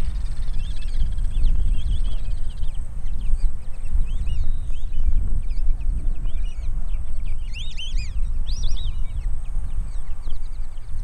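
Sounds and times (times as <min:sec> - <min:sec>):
bird whistles and chirps: 0:00.0 - 0:11.0.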